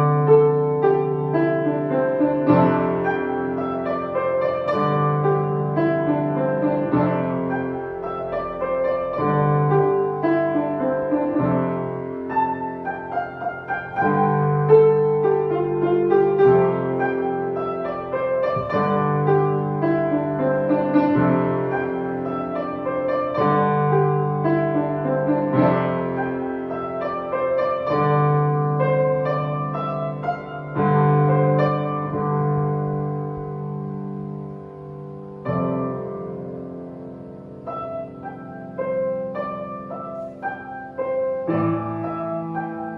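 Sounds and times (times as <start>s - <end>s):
solo piano chords: 0.0s - 42.9s.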